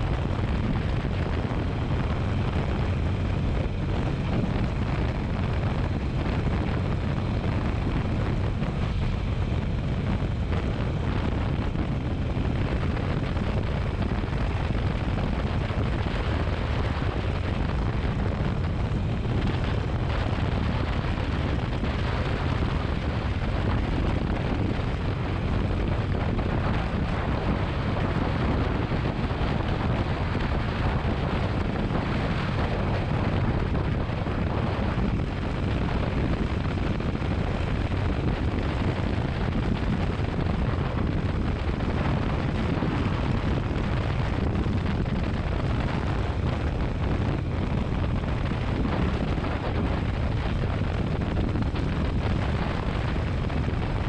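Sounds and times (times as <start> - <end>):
motorcycle engine and road noise: 0.0 - 54.0
wind rushing over microphone: 0.0 - 54.0.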